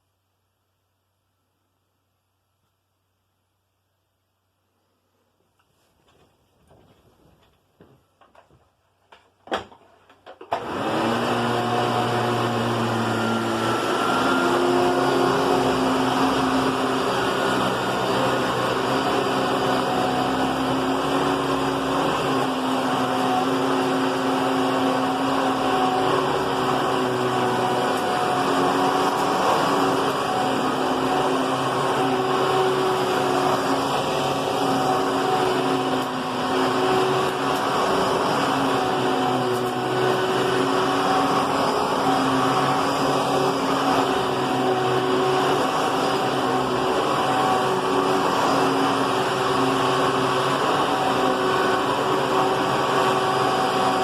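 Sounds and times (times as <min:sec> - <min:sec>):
vacuum cleaner motor running: 0:10.4 - 0:54.0.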